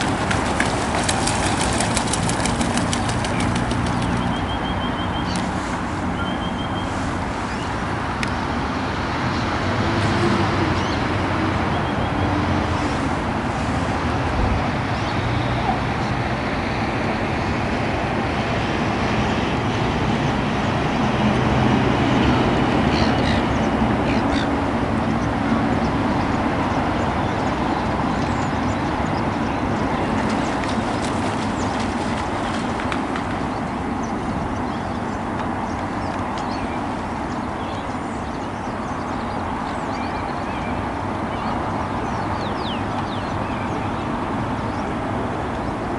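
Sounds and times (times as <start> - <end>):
road traffic: 0.0 - 45.9.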